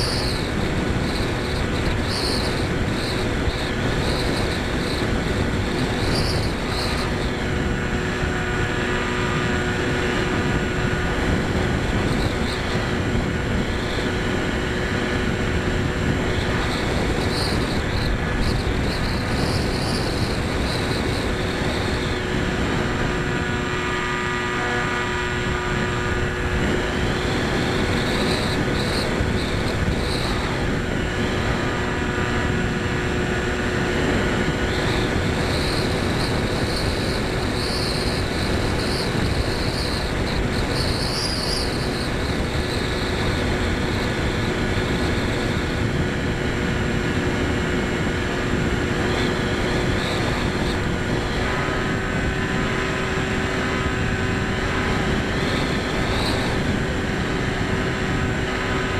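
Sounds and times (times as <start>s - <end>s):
model plane motor whine: 0.0s - 58.9s
wind noise: 0.0s - 58.9s.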